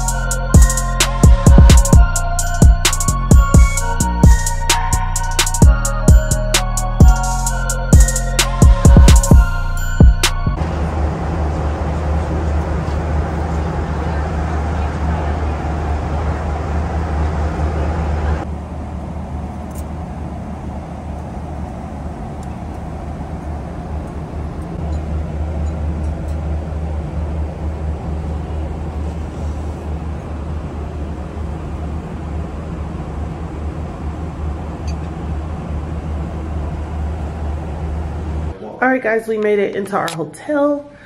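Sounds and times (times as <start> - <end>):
moving vehicle rumble: 0.0 - 38.6.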